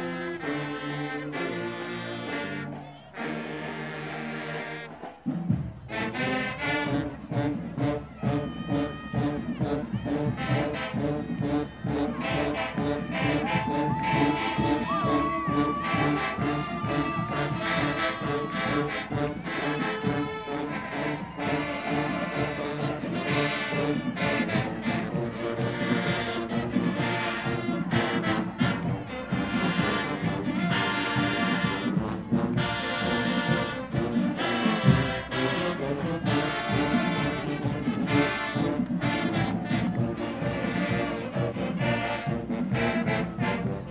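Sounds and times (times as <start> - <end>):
marching band brass: 0.0 - 43.9
steady drum beat: 7.1 - 43.9.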